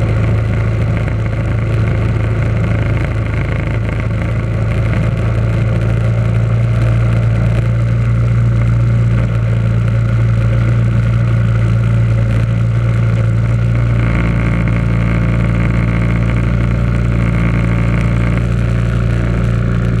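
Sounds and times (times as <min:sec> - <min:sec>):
garden tractor engine droning: 0:00.0 - 0:20.0.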